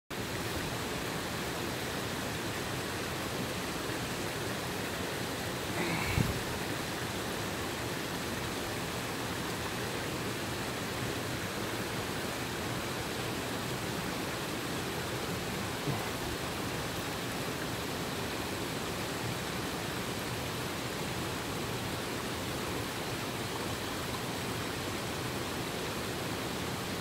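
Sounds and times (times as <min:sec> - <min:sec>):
stream rushing over rocks: 0:00.1 - 0:27.0.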